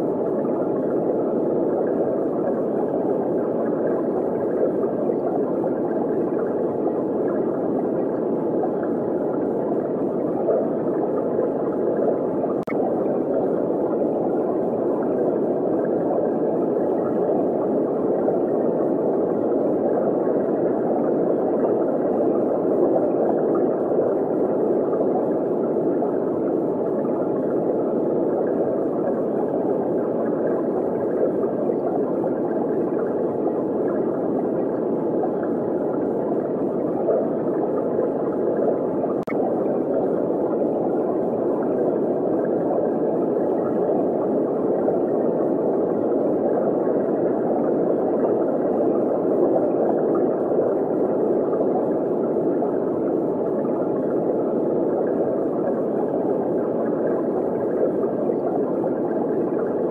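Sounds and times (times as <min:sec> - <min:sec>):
muffled underwater rushing: 0:00.0 - 0:59.9.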